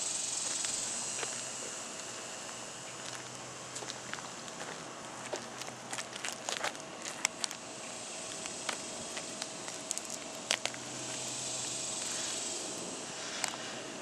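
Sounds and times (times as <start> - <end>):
faint steady hum: 0.0 - 14.0
shoes scuffing on asphalt shingles: 0.4 - 12.3.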